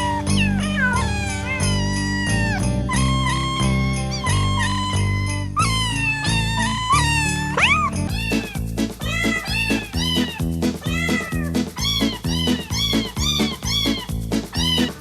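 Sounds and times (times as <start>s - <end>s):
tuned cat meows melody: 0.0s - 15.0s.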